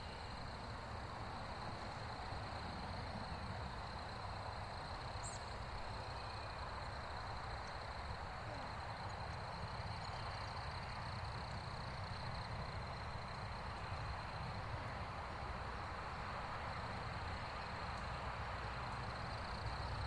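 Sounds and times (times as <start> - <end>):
high insect chorus: 0.0 - 20.0.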